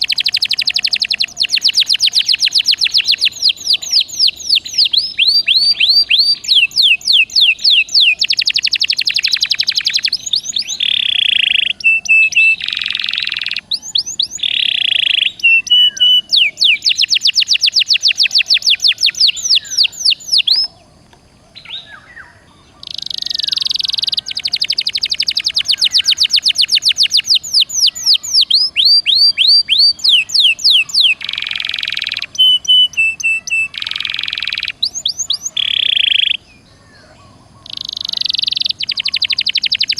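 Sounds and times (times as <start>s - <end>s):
canary singing: 0.0s - 20.9s, 21.5s - 39.9s.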